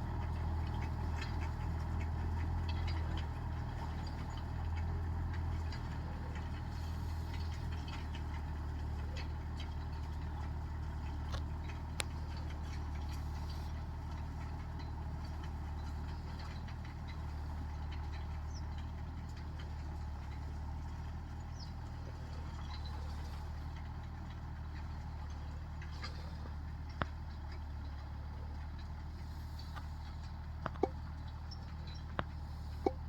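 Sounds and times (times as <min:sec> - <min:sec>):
tractor engine humming: 0:00.0 - 0:33.0.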